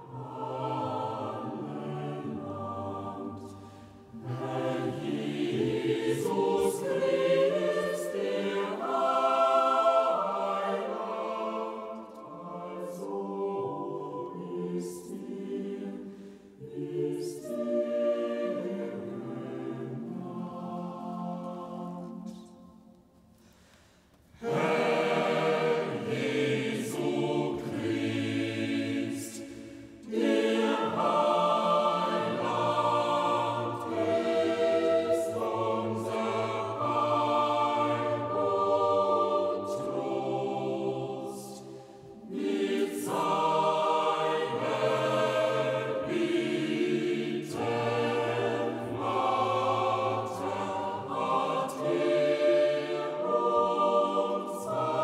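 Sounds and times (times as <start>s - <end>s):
choir singing sustained chords: 0.0s - 23.0s, 24.4s - 55.0s.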